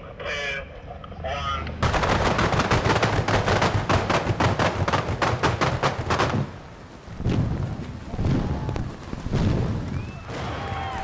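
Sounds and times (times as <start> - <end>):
pyrotechnic charges banging: 1.8 - 11.0.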